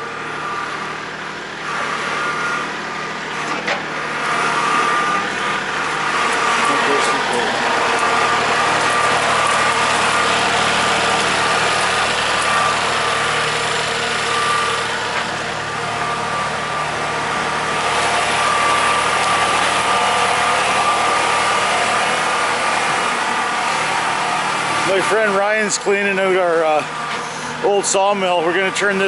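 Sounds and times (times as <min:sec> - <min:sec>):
tractor diesel engine running: 0:00.0 - 0:29.0
constant high tone: 0:04.4 - 0:29.0.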